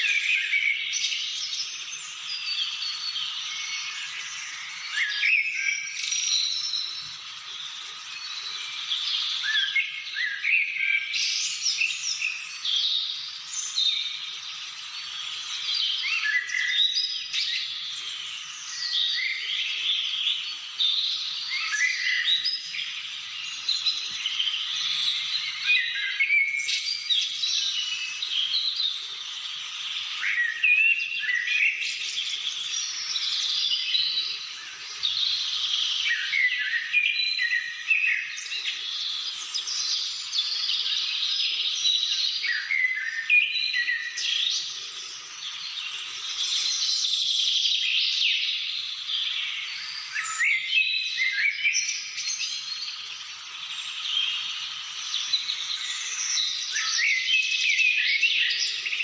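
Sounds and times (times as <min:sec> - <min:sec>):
chorus of birds singing: 0:00.0 - 0:59.0.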